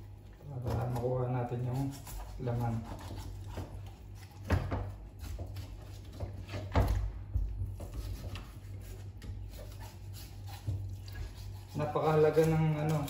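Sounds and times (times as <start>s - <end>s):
low steady hum: 0.0s - 13.0s
knife scraping on cutting board: 0.6s - 6.8s, 7.8s - 13.0s.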